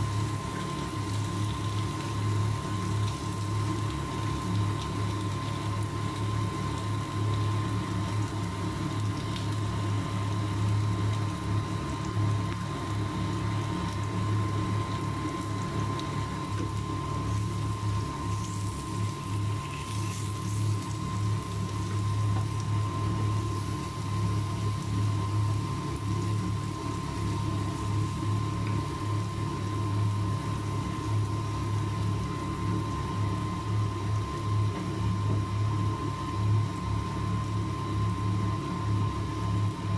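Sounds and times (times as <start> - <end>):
bacon sizzling and crackling: 0.0 - 36.8
steady low hum: 0.0 - 39.9.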